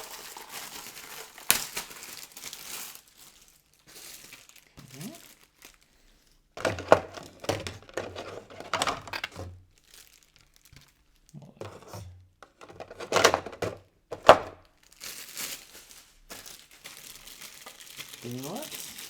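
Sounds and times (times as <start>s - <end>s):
packaging crinkling: 0.0s - 6.0s, 6.6s - 11.8s, 12.5s - 19.0s.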